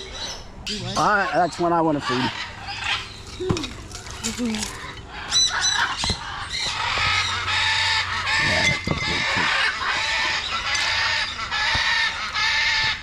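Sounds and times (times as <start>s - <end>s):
parrots squawking: 0.0s - 13.0s.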